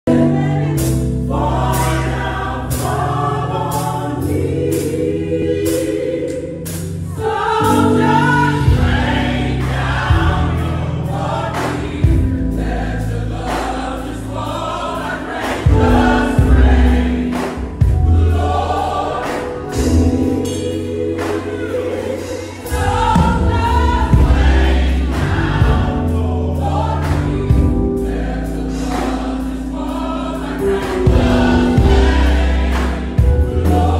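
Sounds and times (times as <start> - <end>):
gospel choir singing: 0.1 - 33.9.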